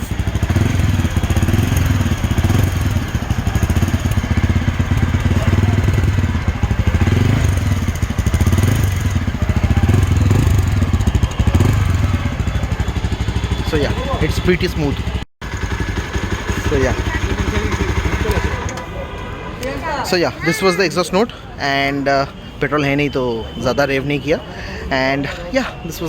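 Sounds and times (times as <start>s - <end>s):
motorcycle engine idling with throttle blips: 0.0s - 20.6s, 21.4s - 26.0s.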